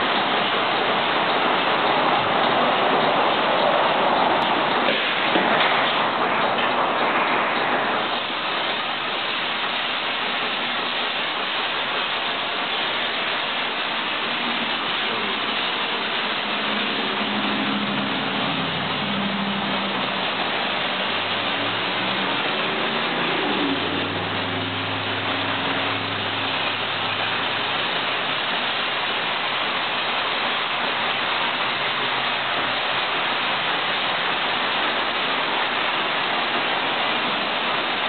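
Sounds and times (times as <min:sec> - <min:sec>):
water spraying onto a car: 0:00.0 - 0:38.0.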